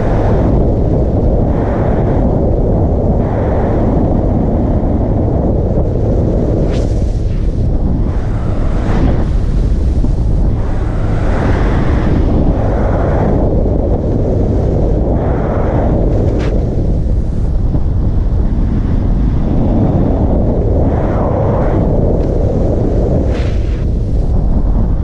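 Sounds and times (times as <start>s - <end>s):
road noise: 0.0s - 25.0s
wind buffeting microphone: 0.0s - 25.0s.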